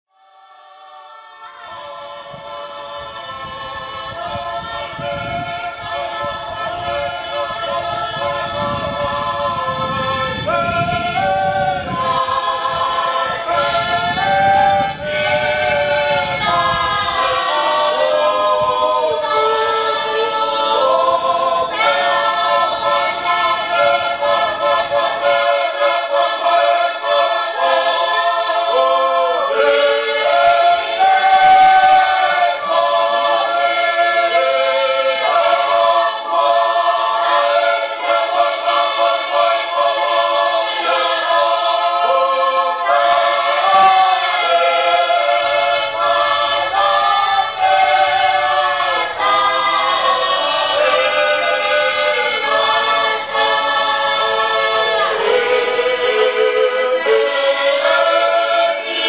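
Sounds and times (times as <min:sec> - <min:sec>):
choir singing in harmony: 0:00.1 - 0:59.0.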